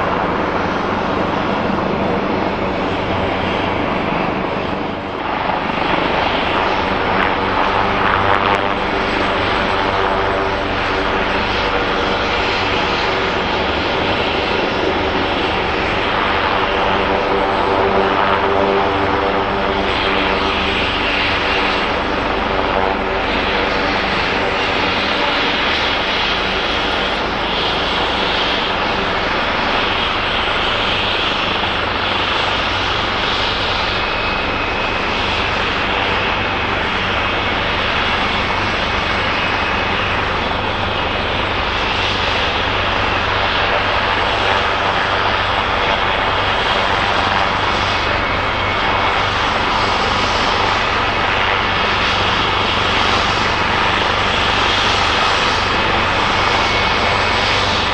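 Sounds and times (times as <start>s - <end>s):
helicopter engine and rotor: 0.0s - 57.9s.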